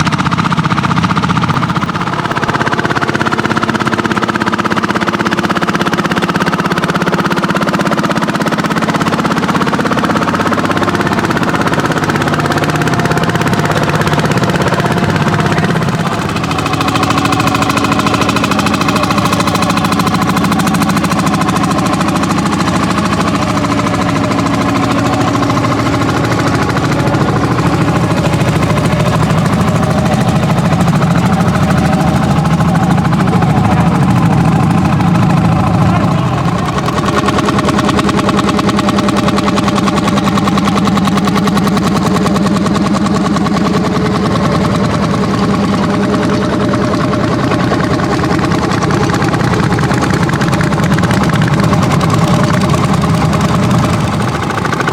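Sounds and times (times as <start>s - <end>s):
tractor engine exhaust beat: 0.0s - 54.9s.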